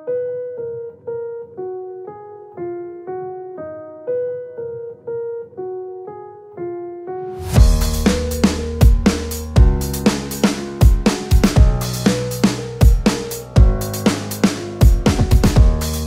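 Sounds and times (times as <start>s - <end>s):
slow electric piano melody: 0.0s - 16.0s.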